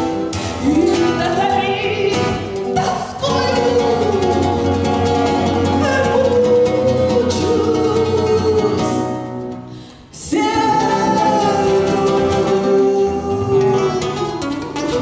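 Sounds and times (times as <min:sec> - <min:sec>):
instrumental accompaniment: 0:00.0 - 0:15.0
woman singing: 0:00.4 - 0:09.5, 0:10.1 - 0:15.0.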